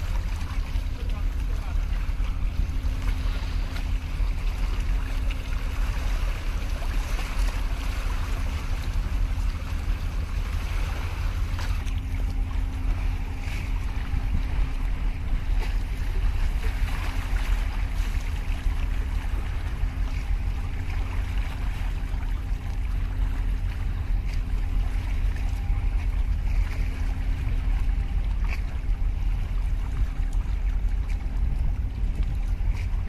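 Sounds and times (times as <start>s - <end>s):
faint steady hum: 0.0s - 33.0s
sea water lapping on concrete: 0.0s - 33.0s
wind buffeting microphone: 0.0s - 33.0s.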